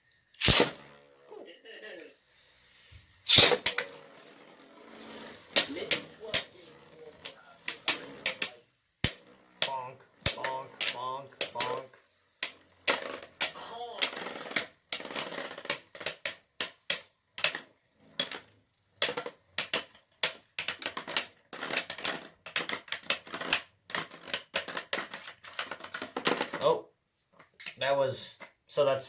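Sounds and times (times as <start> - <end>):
spinning tops clacking: 0.4 - 1.0, 3.3 - 26.6.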